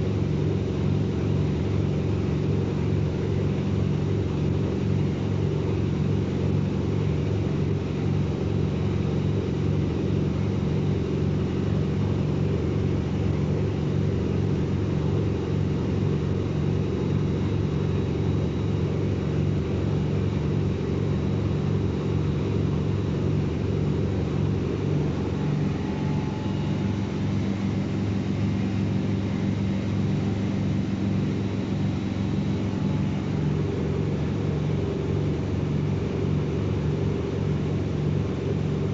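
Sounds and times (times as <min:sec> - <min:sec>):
washing machine motor humming: 0:00.0 - 0:38.9.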